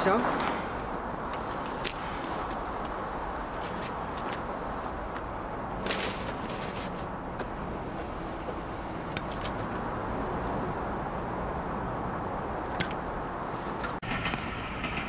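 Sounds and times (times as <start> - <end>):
urban background rumble: 0.0 - 15.0.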